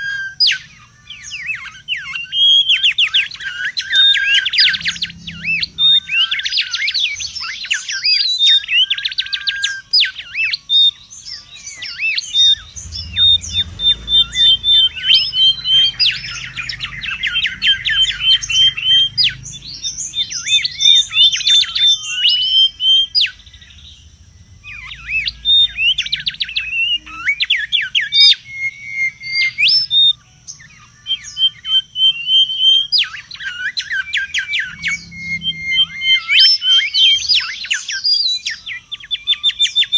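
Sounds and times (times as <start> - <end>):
bird calling with chirps and whistles: 0.0 - 39.9.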